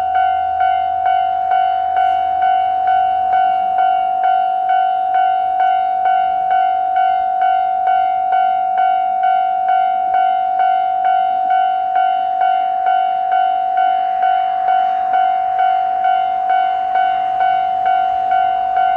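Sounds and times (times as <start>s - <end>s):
level crossing warning bell: 0.0s - 18.9s.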